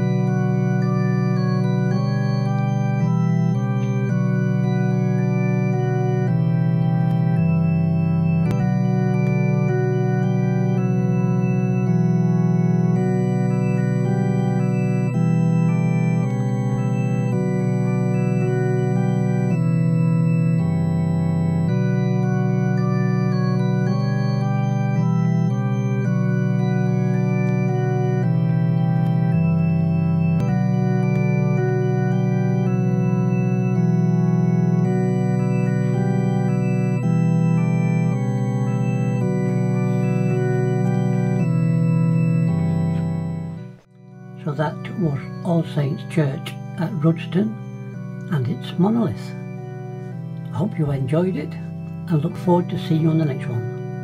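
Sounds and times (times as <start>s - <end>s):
slow organ music: 0.0s - 54.0s.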